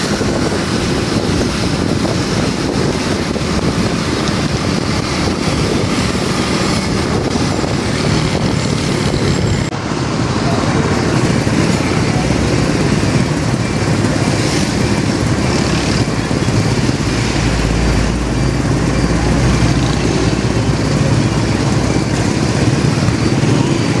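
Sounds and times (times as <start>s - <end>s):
motorcycle engines idling: 0.0s - 24.0s.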